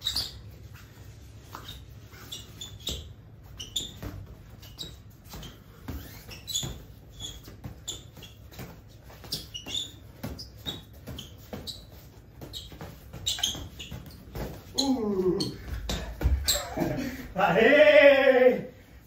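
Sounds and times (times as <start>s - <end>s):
shoes squeaking on floor: 0.0s - 17.9s.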